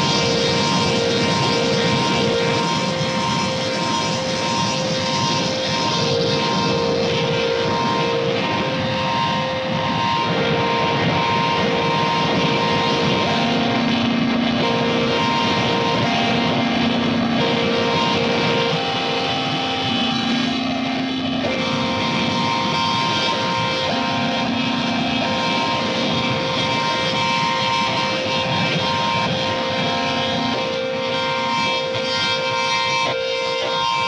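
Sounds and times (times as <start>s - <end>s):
harsh distorted noise wall: 0.0s - 34.0s.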